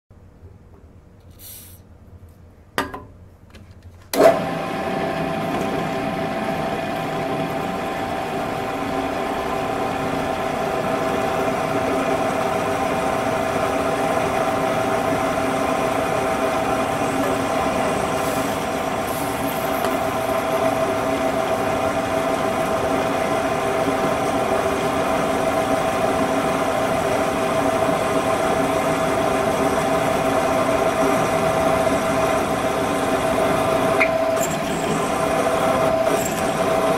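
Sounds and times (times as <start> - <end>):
drill press motor humming: 4.2 - 36.9.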